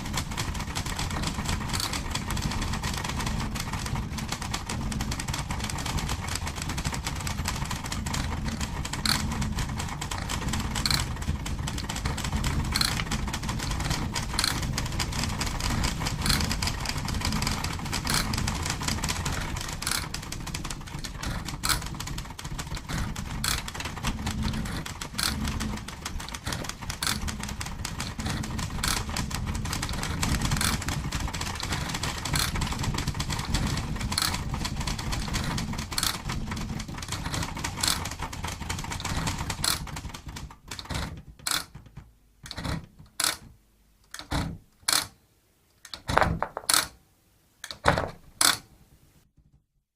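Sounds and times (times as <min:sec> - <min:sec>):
typewriter keys clacking: 0:00.0 - 0:41.8.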